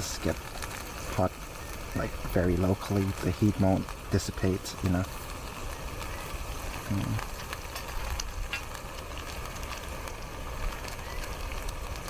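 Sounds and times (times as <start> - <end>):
faint fire crackles: 0.0 - 12.0
small fire hissing: 0.0 - 12.0.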